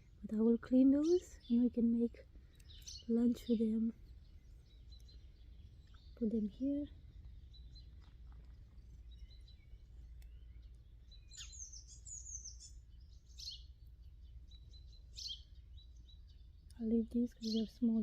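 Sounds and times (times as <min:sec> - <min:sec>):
low outdoor rumble: 0:00.0 - 0:18.0
songbirds singing: 0:00.0 - 0:18.0.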